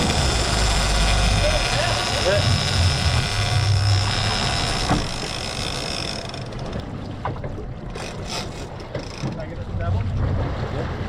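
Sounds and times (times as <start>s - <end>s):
outboard motor running: 0.0s - 11.0s
water rushing past boat: 0.0s - 11.0s.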